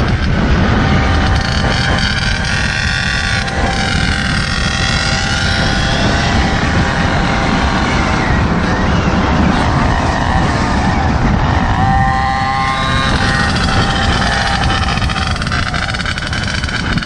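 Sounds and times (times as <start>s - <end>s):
small engine whining: 0.0s - 17.0s
wind rumble on microphone: 0.0s - 17.0s.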